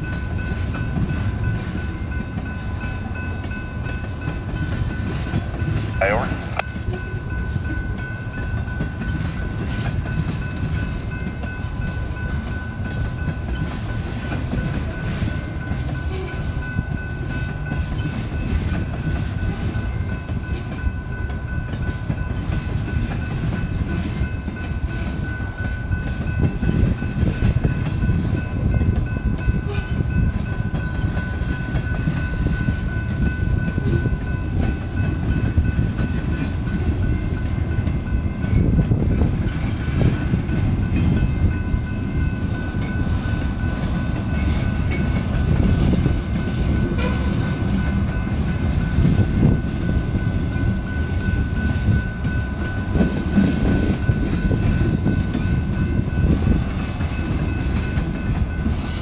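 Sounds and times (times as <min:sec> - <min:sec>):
crossing signal bell ringing: 0:00.0 - 0:59.0
train wheels rumbling on rails: 0:00.0 - 0:59.0.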